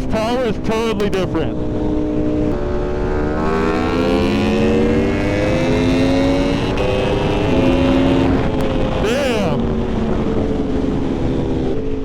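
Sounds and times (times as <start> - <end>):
motorcycle engine revving: 1.5 - 12.0.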